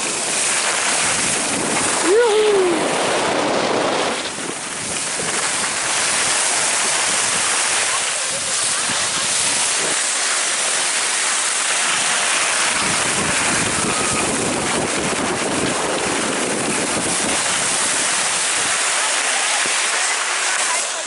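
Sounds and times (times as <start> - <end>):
skis scraping over snow: 0.0 - 2.2, 2.8 - 21.0
wind on microphone: 0.0 - 10.2, 11.7 - 19.0.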